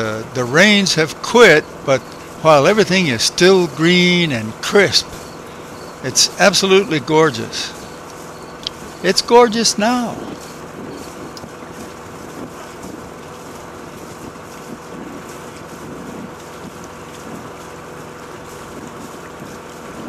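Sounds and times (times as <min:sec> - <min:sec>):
boat motor humming: 0:00.0 - 0:20.0
wind buffeting microphone: 0:00.0 - 0:20.0.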